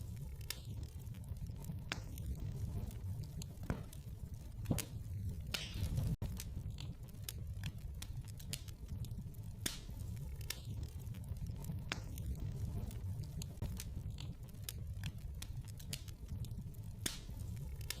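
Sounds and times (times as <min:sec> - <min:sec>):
wood fire crackling in fireplace: 0:00.0 - 0:18.0.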